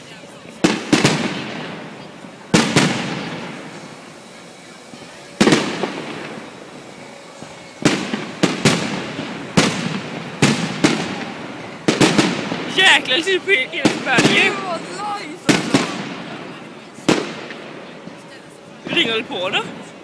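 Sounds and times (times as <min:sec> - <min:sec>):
rolling echo: 0:00.5 - 0:18.3
firework shells bursting: 0:00.6 - 0:18.2.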